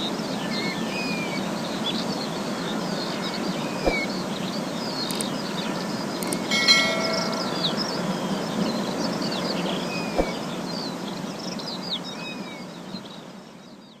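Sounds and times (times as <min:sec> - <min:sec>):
steady noisy background: 0:00.0 - 0:13.8
small birds chirping: 0:00.0 - 0:14.0.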